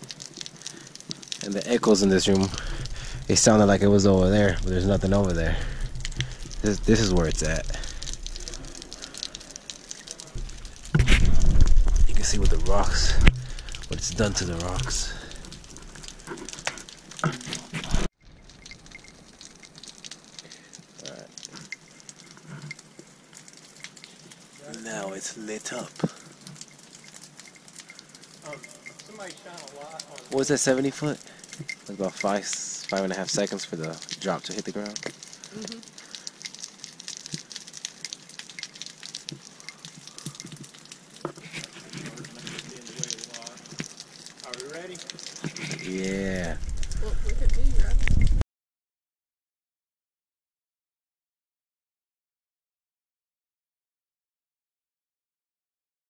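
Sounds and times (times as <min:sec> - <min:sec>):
water dripping onto rock: 0:00.0 - 0:48.4.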